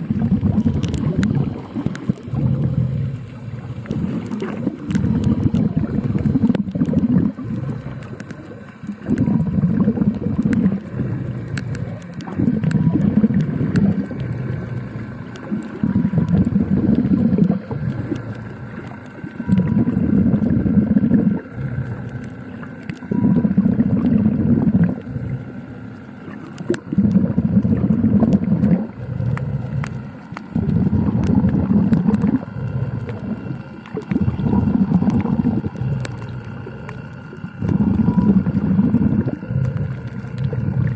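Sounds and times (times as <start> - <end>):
crackling clicks: 0.0 - 40.9
faint steady hum: 0.0 - 40.9
underwater breathing and bubbles: 0.0 - 40.9.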